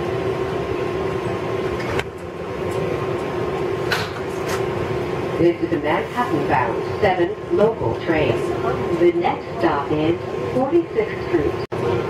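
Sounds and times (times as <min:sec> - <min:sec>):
subway car hum and rumble: 0:00.0 - 0:12.0.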